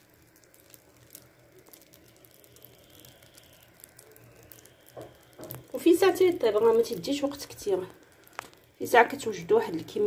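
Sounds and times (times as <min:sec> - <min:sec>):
batter sizzling and crackling in a pan: 0:00.0 - 0:10.0.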